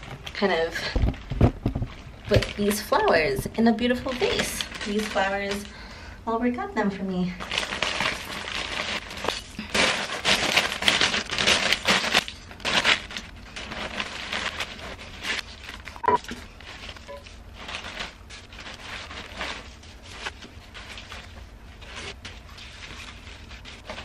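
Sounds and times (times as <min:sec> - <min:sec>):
cellophane wrapping crinkling: 0:00.0 - 0:05.8, 0:07.4 - 0:24.0.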